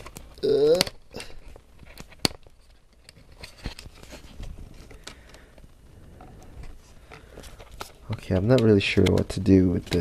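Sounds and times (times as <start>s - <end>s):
laptop parts clicking and knocking: 0.0s - 4.2s, 4.8s - 10.0s.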